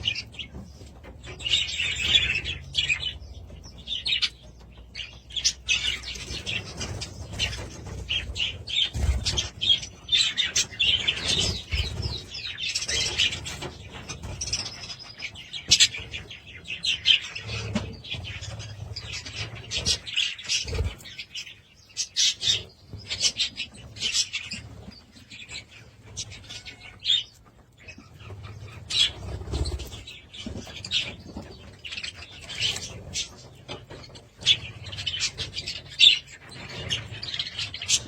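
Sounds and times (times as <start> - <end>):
budgerigars chirping: 0.0 - 38.0.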